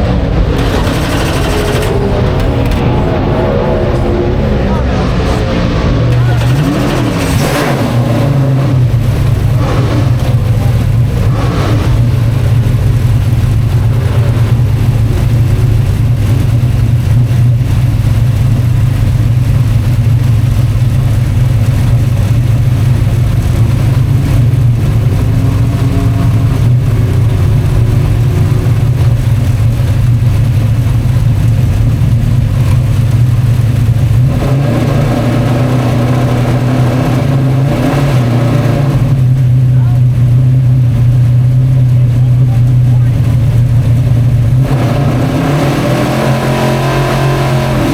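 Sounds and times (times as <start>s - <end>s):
race engines droning: 0.0s - 47.9s.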